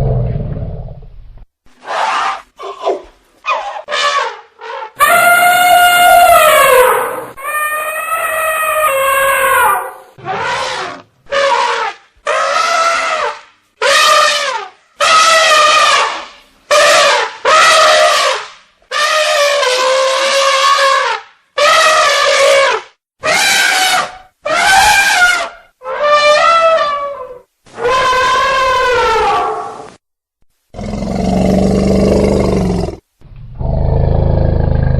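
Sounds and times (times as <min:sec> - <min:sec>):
elephant trumpeting: 0:01.8 - 0:29.8.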